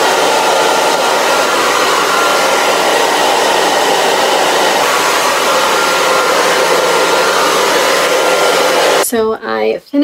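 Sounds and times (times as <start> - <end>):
blow dryer running: 0.0 - 9.0.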